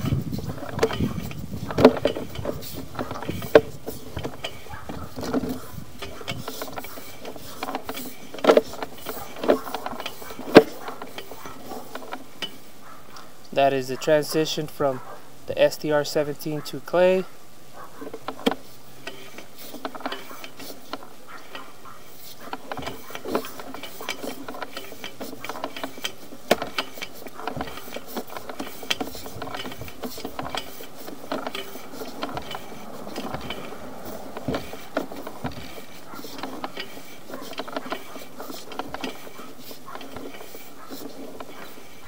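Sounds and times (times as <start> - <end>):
cable reel clicking and rattling: 0.0 - 17.2, 17.8 - 42.0.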